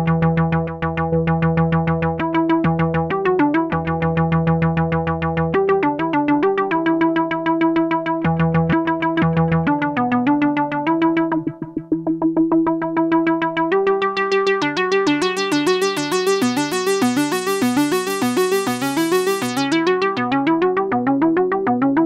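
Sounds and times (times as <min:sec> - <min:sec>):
synthesizer playing repeating notes: 0:00.0 - 0:22.0.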